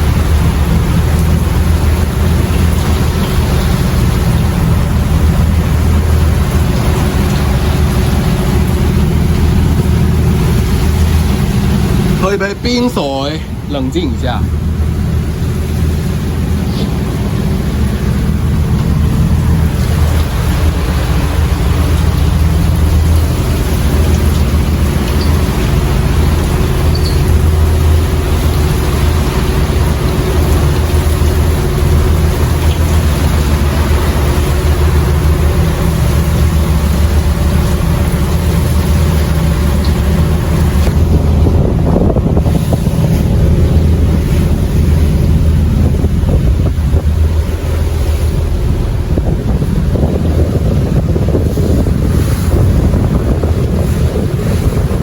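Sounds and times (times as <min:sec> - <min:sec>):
boat engine humming: 0:00.0 - 0:55.0
wind buffeting microphone: 0:00.0 - 0:55.0.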